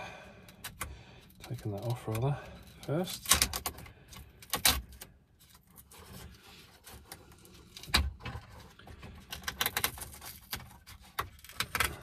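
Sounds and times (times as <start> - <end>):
plastic trim clicks and scrapes: 0.5 - 5.1, 5.8 - 12.0.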